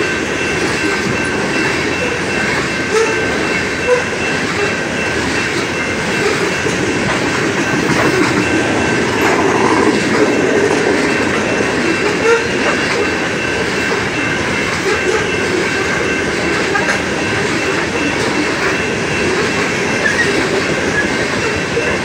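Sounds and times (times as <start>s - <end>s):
steel wheels clattering over rails: 0.0s - 22.0s.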